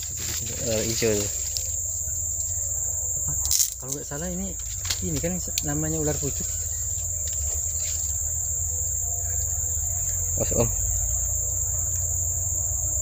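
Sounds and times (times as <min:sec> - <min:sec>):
insects droning: 0:00.0 - 0:13.0
low microphone rumble: 0:00.0 - 0:13.0.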